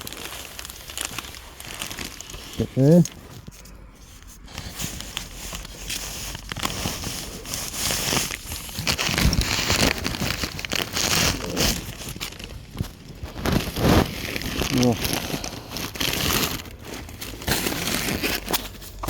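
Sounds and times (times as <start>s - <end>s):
insulation rustling and crinkling: 0.0s - 19.0s.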